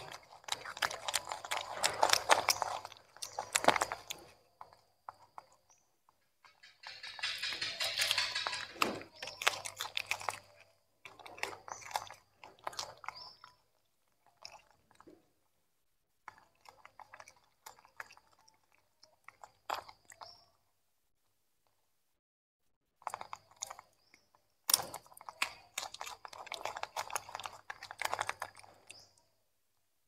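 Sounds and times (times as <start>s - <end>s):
monkeys crunching vegetables: 0.0s - 15.4s, 16.2s - 20.7s, 23.0s - 29.4s.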